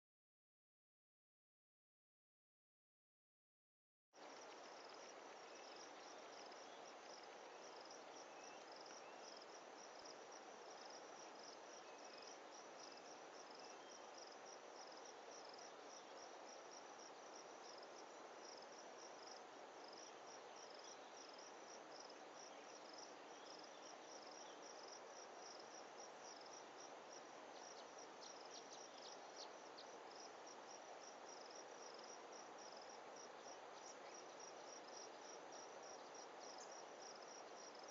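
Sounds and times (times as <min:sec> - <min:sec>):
crickets chirping: 0:04.2 - 0:37.9
soft hiss: 0:04.2 - 0:37.9.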